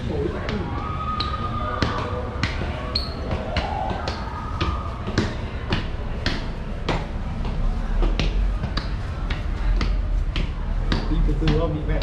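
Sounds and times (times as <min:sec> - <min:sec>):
footsteps on hard floor: 0:01.8 - 0:12.0.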